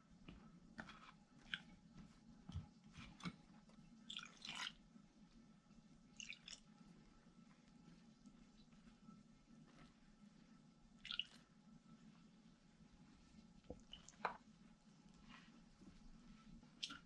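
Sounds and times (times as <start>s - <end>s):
hands kneading dough: 0.0s - 17.0s.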